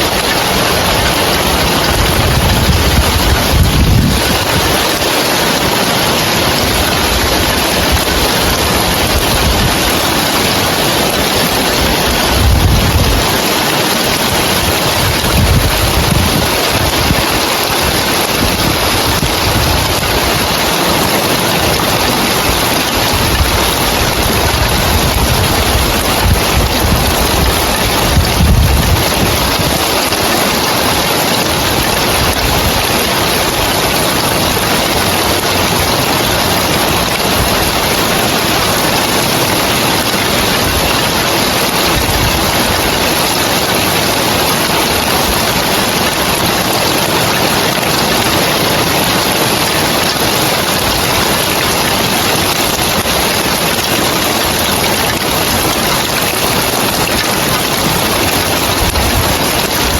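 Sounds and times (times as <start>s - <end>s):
rain on roof tiles: 0.0s - 59.9s.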